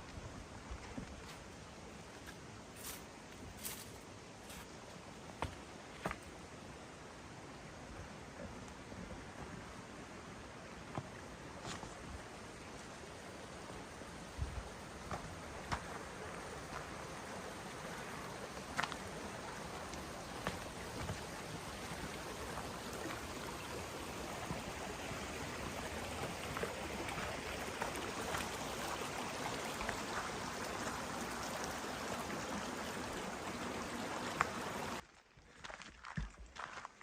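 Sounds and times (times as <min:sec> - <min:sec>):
stream rushing over rocks: 0:00.2 - 0:35.0.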